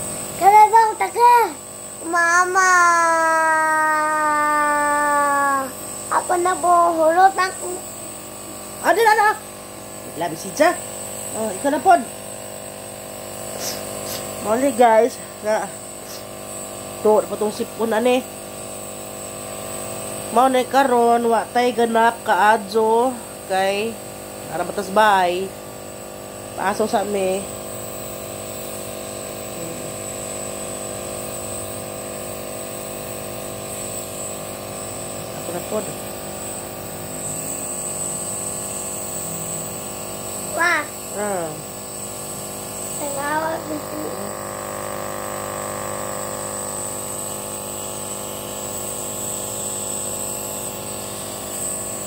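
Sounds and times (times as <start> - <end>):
nebulizer motor hum: 0.0 - 52.0.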